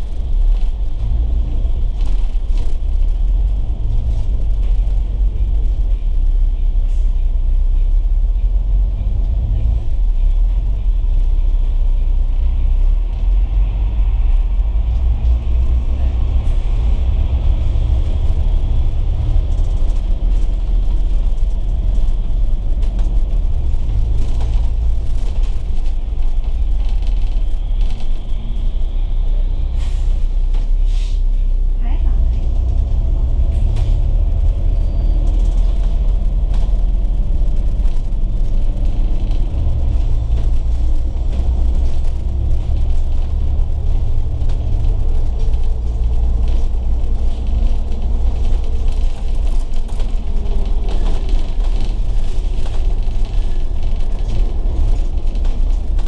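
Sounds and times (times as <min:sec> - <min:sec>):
bus engine and road drone: 0:00.0 - 0:56.0.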